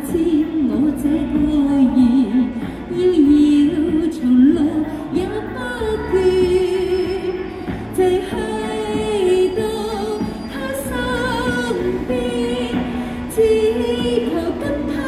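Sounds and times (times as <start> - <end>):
backing music: 0.0 - 15.0
woman singing into microphone: 0.0 - 15.0.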